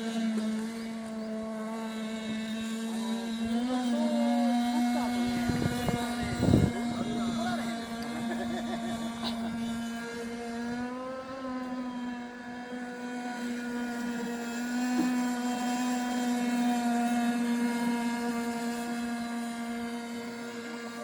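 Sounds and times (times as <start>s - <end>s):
model boat engine droning: 0.0s - 21.0s.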